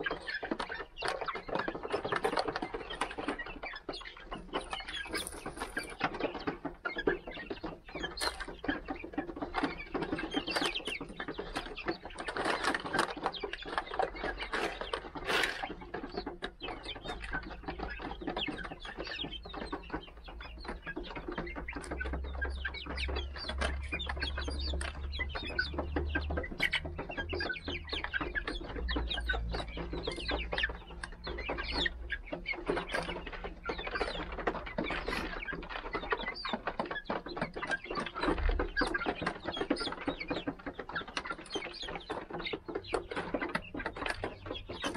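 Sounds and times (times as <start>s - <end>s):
chickens clucking and chirping: 0.0s - 44.9s
pecking and scratching on gravel: 0.0s - 44.9s.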